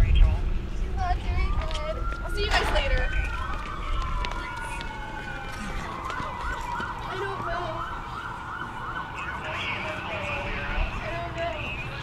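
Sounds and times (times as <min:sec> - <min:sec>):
emergency vehicle siren: 0:00.9 - 0:12.0.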